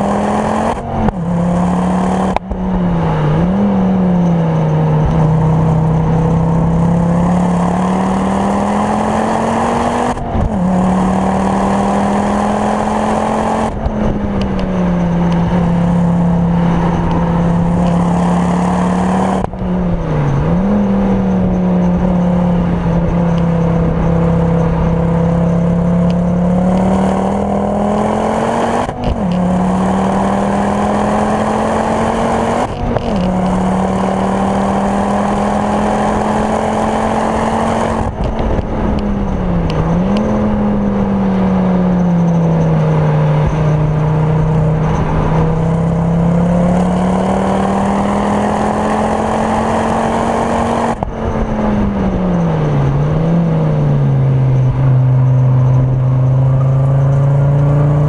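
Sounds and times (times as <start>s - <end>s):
car engine under load: 0.0s - 58.0s.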